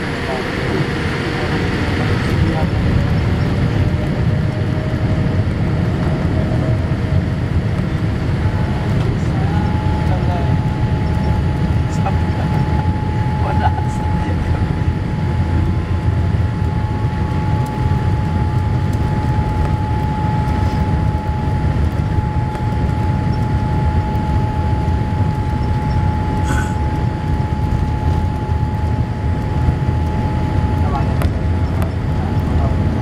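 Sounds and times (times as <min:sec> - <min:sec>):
airliner cabin rumble: 0:00.0 - 0:33.0
constant engine whine: 0:00.0 - 0:33.0.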